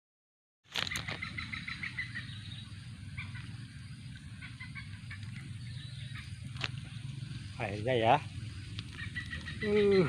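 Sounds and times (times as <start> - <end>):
bird chirps: 0.8 - 10.0.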